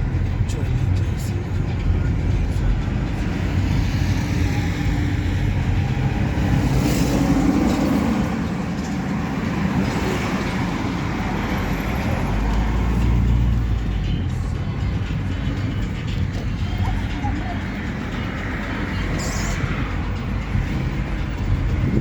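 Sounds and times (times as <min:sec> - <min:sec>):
road noise: 0:00.0 - 0:22.0
vehicle rumbling on road: 0:00.0 - 0:22.0.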